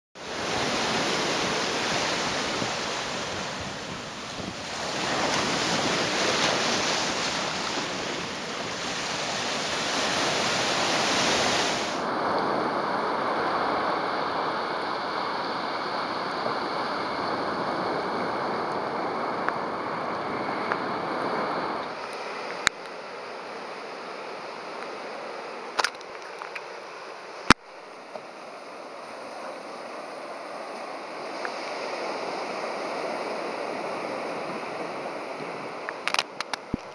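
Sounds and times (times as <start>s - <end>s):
surf washing over rocks: 0.2s - 36.9s.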